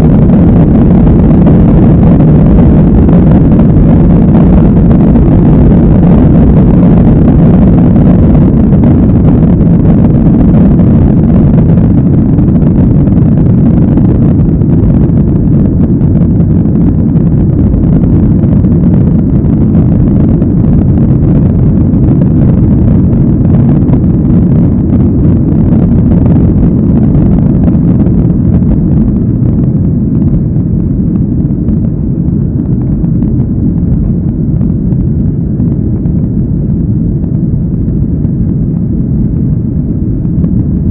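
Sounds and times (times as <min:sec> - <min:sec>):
jet engines rumbling at takeoff: 0:00.0 - 0:40.9.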